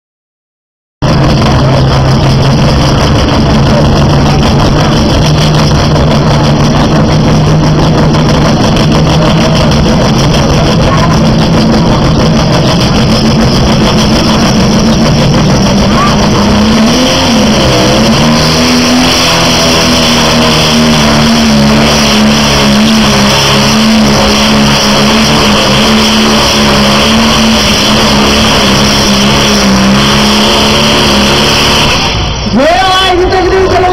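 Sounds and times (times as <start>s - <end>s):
tractor diesel engine running: 1.0s - 33.9s.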